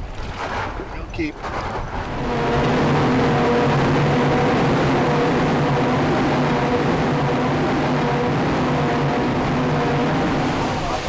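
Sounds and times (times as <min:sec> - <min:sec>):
outboard motors running fast: 0:00.0 - 0:11.0
water rushing: 0:00.0 - 0:11.0
wind: 0:00.0 - 0:11.0.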